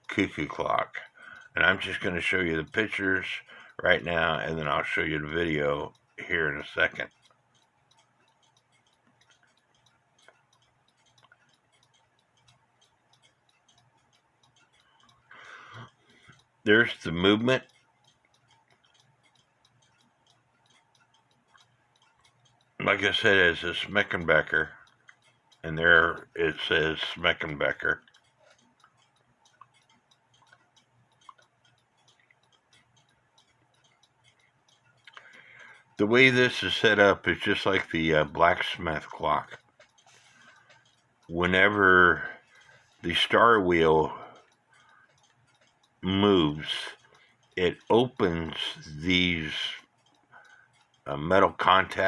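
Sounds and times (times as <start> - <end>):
clock ticking: 0.0 - 52.0.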